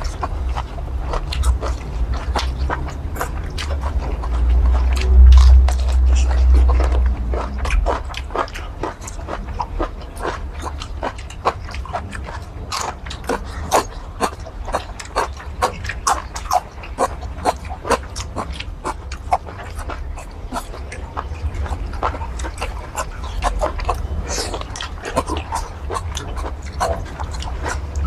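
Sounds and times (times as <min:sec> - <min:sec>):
deep rumble: 0:00.0 - 0:28.0
person chewing wetly: 0:00.0 - 0:28.0.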